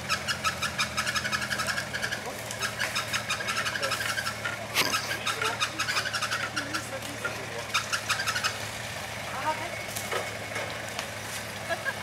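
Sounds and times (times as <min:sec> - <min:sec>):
truck engine running low revs: 0:00.0 - 0:12.0
twigs crackling under tyres: 0:00.0 - 0:12.0.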